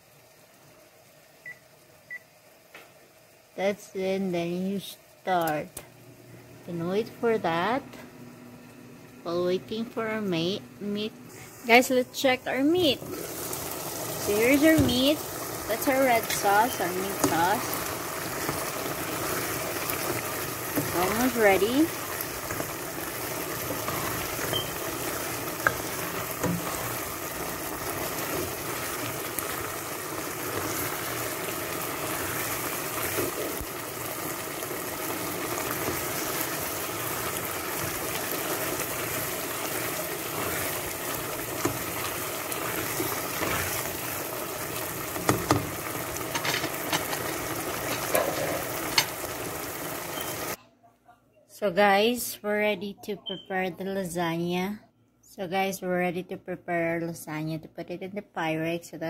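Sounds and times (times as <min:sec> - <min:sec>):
sauce bubbling and sizzling: 0:00.0 - 0:10.0, 0:11.0 - 0:50.6.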